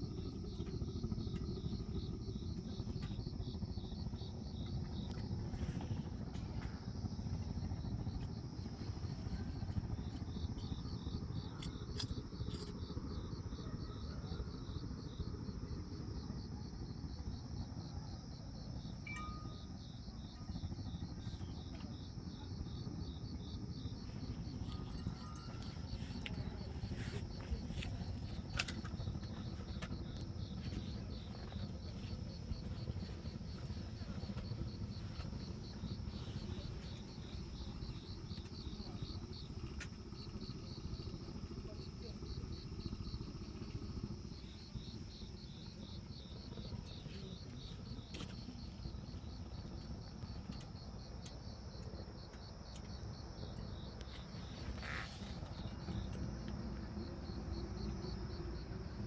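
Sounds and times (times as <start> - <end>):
cricket chirping trill: 0.0 - 59.0.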